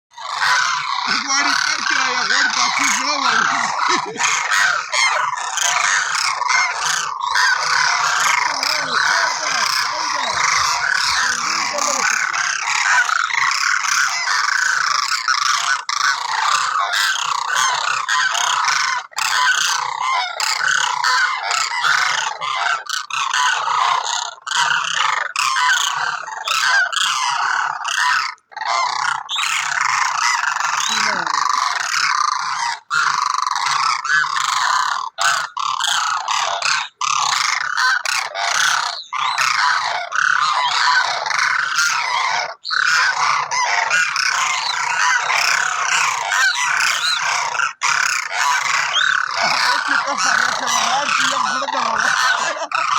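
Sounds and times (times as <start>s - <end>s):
flock of cranes calling: 0.1s - 52.9s.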